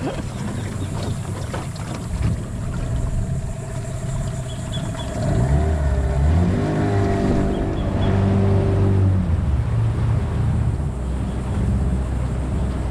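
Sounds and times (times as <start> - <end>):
outboard motor running: 0.0 - 12.9.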